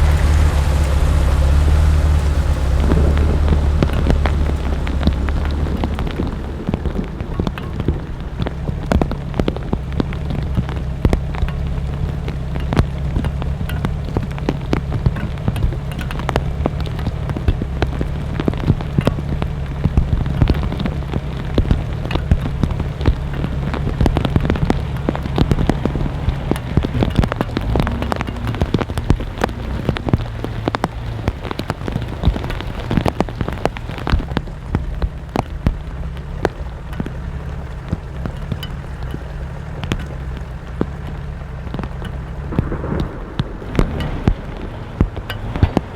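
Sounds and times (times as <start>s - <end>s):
heavy rain: 0.0s - 45.9s
raindrops ticking on a surface: 0.0s - 45.9s.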